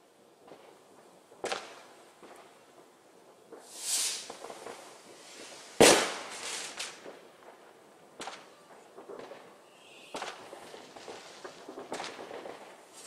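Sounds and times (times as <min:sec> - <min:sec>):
firework hiss: 0:00.0 - 0:13.0
small firework cracks: 0:00.0 - 0:13.0
firework bangs: 0:00.4 - 0:13.0.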